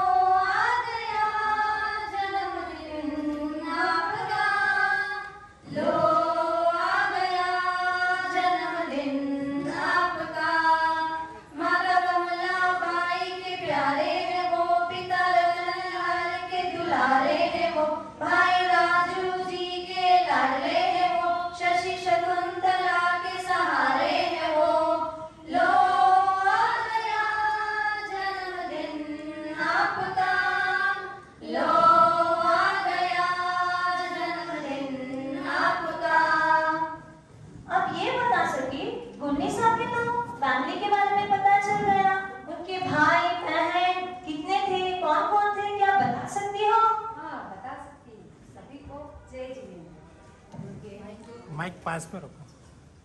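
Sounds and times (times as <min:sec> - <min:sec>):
women singing: 0:00.0 - 0:47.0.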